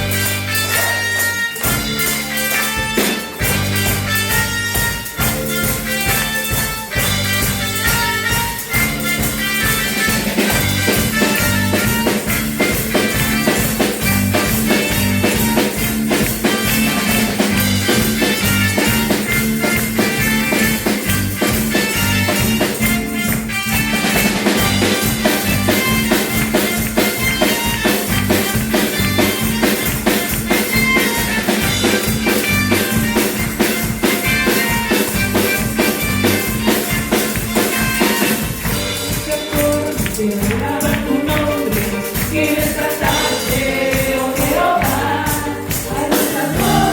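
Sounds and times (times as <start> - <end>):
music with drums and guitar: 0.0 - 46.9.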